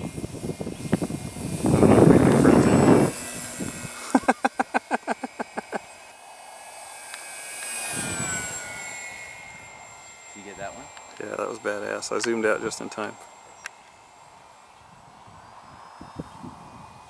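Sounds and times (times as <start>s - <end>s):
model plane motor whining: 0.0s - 17.0s.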